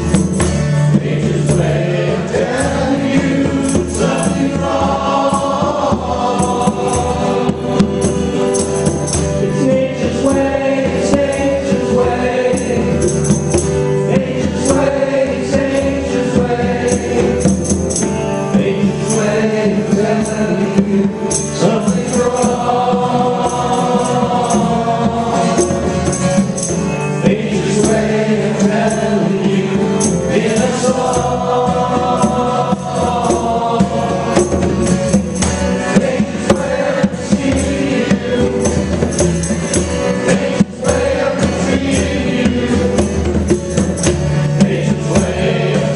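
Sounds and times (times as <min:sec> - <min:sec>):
people singing with harmony: 0:00.0 - 0:45.9
small band playing: 0:00.0 - 0:45.9.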